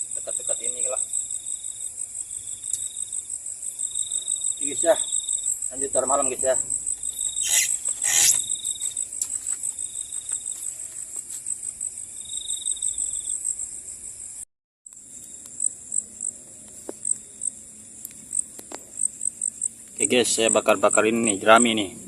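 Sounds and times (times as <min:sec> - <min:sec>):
crickets chirping: 0:00.0 - 0:22.0
lower insect trill: 0:00.0 - 0:22.0.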